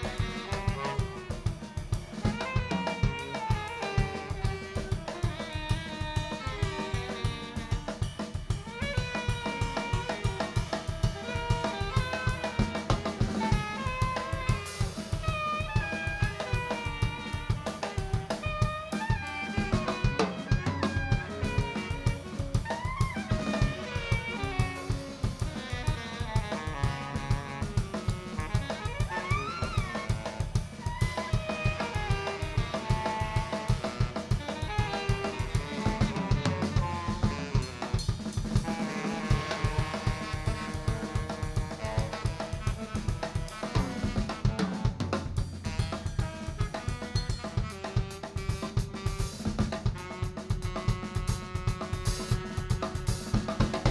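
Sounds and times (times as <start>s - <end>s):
drum kit: 0.0s - 53.9s
jazz ensemble playing: 0.0s - 53.9s.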